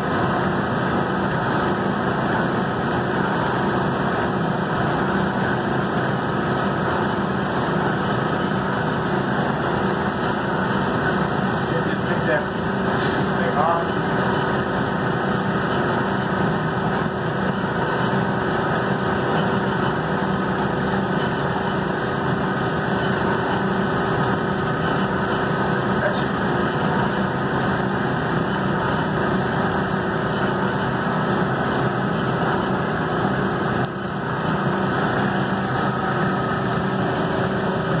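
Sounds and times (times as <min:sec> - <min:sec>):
laser engraving machine whirring: 0:00.0 - 0:38.0.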